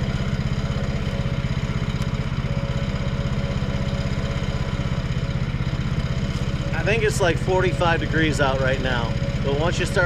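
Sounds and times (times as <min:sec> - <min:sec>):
sawmill engine running steadily: 0:00.0 - 0:10.0.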